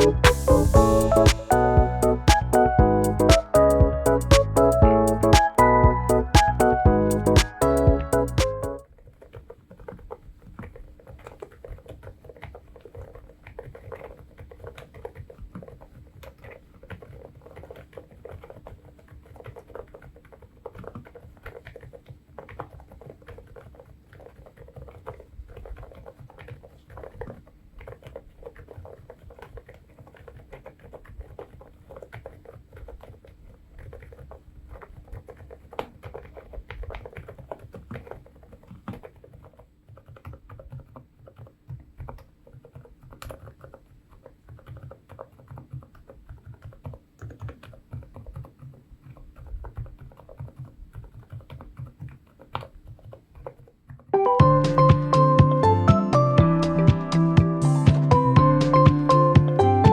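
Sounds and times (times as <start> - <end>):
quiet keyboard typing: 0.0 - 59.9.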